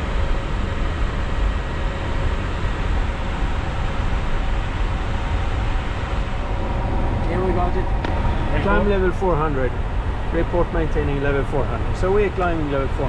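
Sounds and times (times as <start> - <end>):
airflow rushing rumble: 0.0 - 13.0.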